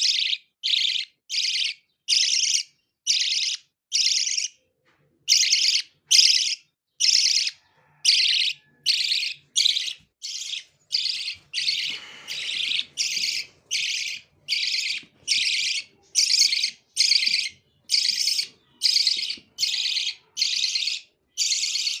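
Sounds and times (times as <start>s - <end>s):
baby birds chirping: 0.0s - 22.0s.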